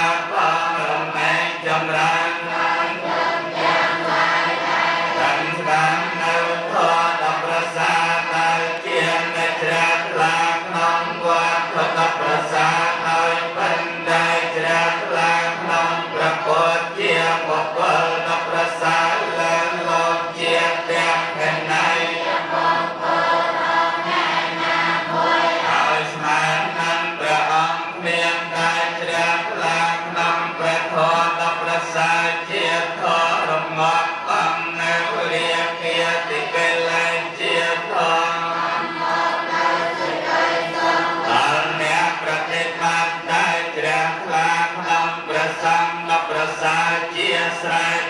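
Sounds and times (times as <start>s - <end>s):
monks chanting in unison: 0.0s - 48.0s.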